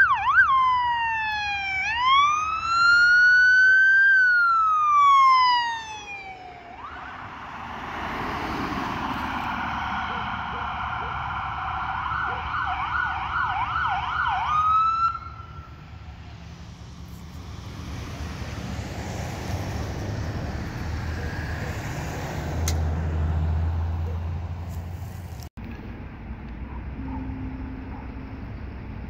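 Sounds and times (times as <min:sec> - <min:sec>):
police siren: 0:00.0 - 0:24.4
low rumble of vehicles: 0:00.0 - 0:29.0
low engine hum: 0:01.5 - 0:29.0.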